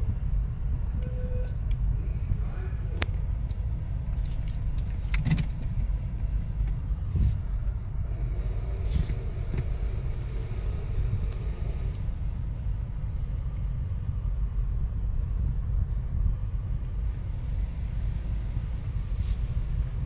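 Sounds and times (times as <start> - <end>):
car wash brushes and spray rumble: 2.0 - 20.0.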